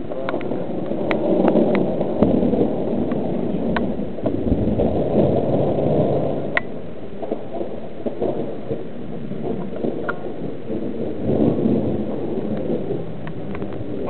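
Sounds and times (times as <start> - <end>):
rain: 0.0 - 14.0
thunder rumble: 0.0 - 14.0.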